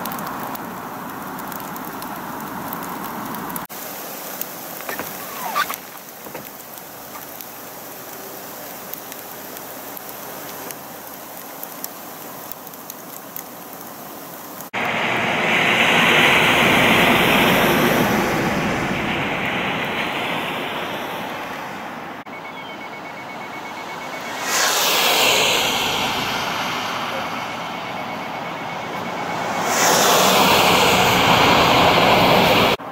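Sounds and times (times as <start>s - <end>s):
vehicles passing on wet road: 0.0s - 22.2s, 23.4s - 32.9s
freezing rain and sleet hiss: 0.0s - 32.9s.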